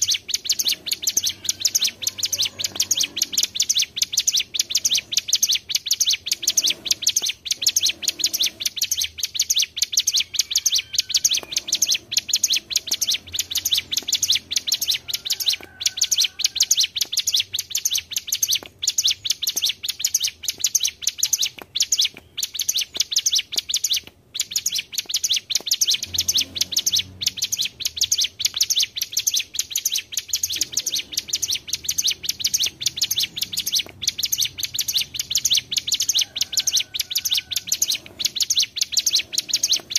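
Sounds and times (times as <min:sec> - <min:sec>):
songbirds high-pitched chattering trill: 0:00.0 - 0:39.9.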